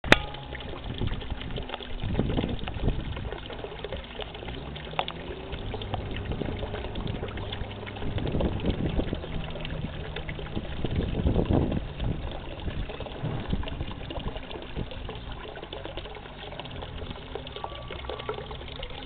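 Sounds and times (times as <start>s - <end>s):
low steady hum: 0.0s - 19.0s
pond fountain splashing: 0.0s - 19.0s.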